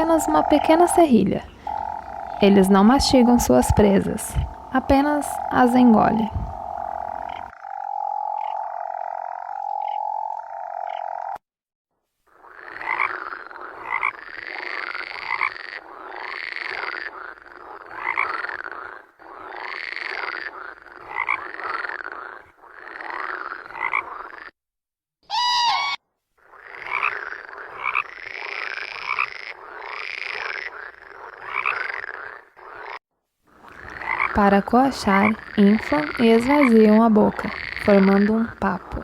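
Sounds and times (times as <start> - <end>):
frog croaks: 0.0 - 11.4, 12.2 - 24.6, 25.3 - 39.0
frogs calling: 0.0 - 11.4, 12.3 - 24.6, 25.2 - 39.0.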